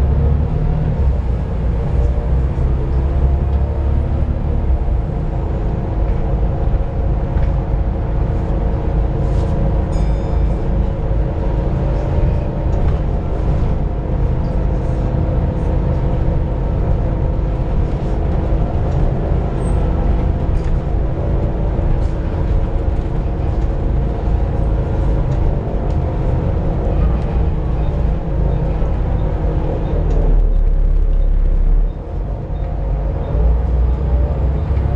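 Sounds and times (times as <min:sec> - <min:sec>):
bus engine rumble: 0:00.0 - 0:34.9.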